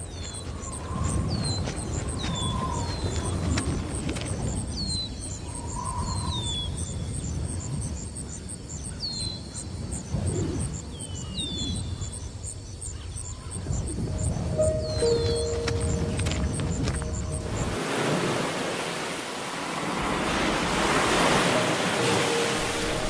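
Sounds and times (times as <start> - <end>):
insect chirping: 0.0 - 23.0.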